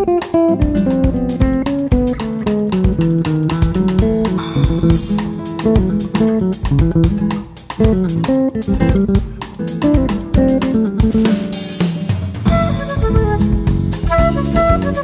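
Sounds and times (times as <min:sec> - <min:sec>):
acoustic guitar plucked notes: 0:00.0 - 0:15.0
electric bass: 0:00.0 - 0:15.0.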